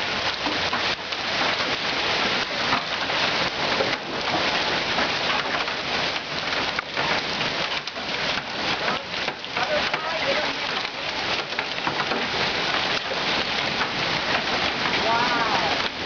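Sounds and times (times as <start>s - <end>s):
hail and rain pelting down: 0.0s - 16.0s.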